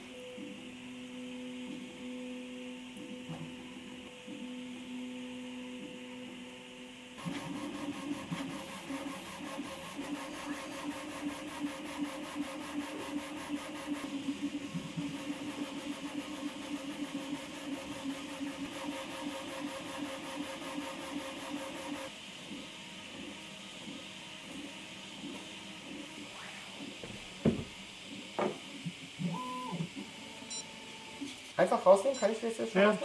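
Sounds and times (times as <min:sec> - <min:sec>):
printer stepper motors buzzing: 0:00.0 - 0:33.0.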